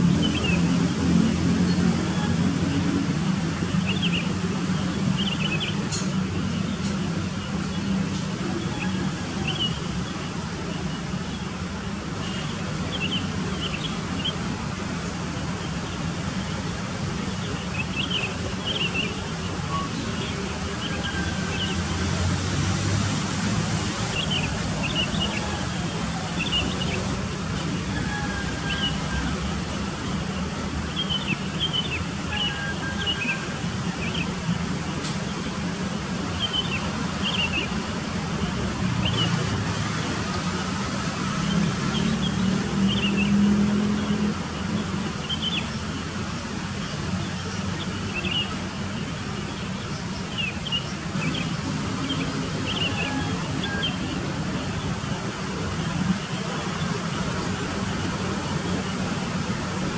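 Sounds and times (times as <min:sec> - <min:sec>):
distant road traffic rumble: 0:00.0 - 0:59.9
outdoor noise hiss: 0:02.6 - 0:59.9.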